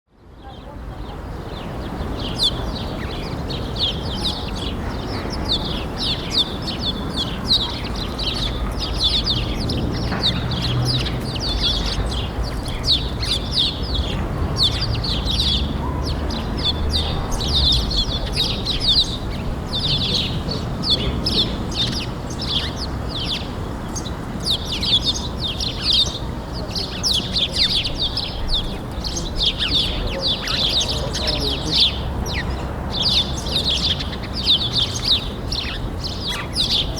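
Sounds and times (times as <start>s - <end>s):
songbirds chirping: 0.1s - 36.9s.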